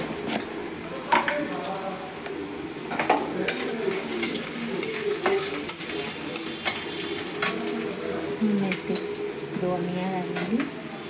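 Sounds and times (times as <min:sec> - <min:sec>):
food sizzling in hot oil: 0:00.1 - 0:11.0.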